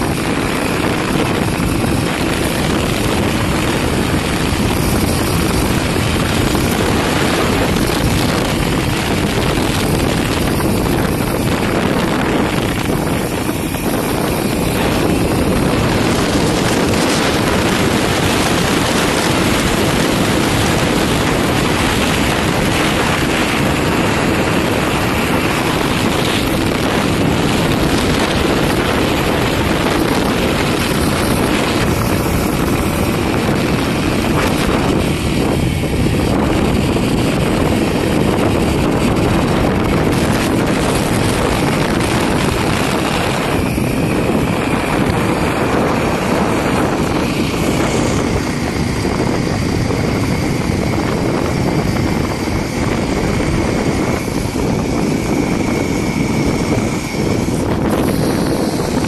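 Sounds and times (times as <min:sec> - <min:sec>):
motorbike engine running: 0:00.0 - 0:59.0
wind rushing over microphone: 0:00.0 - 0:59.0.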